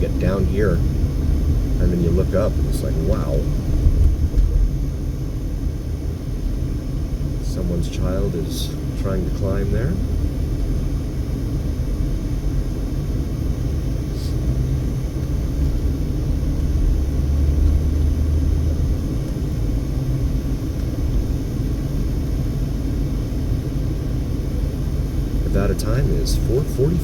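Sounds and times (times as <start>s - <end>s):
car driving slowly: 0.0s - 27.0s.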